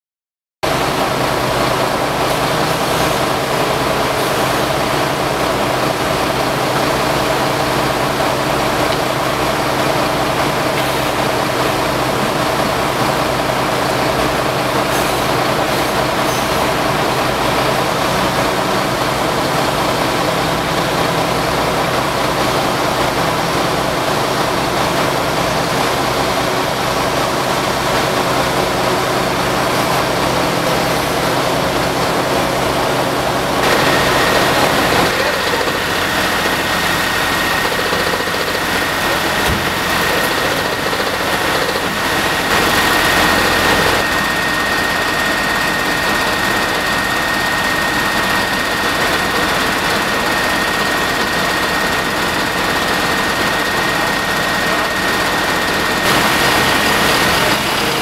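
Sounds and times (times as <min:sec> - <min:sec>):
fire truck engine running: 0:00.6 - 0:58.0.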